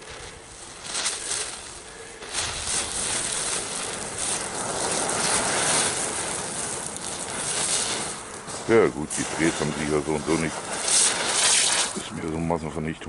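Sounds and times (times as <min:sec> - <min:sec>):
ground fireworks hissing and crackling: 0:00.0 - 0:13.0.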